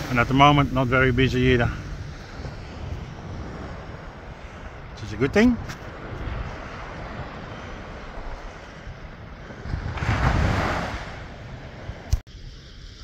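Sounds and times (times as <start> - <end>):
waves breaking on shore: 0.0 - 13.0
wind rumbling on microphone: 0.0 - 13.0.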